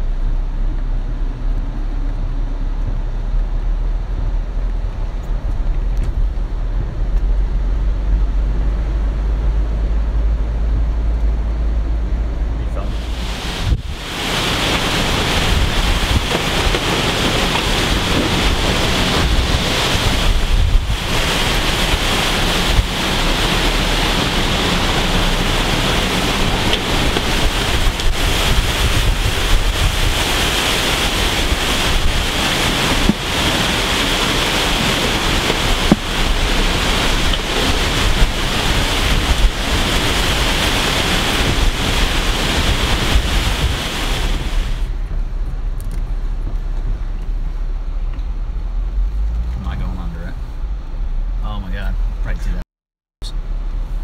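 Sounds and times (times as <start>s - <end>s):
gusty wind blasting microphone: 1.0s - 49.4s.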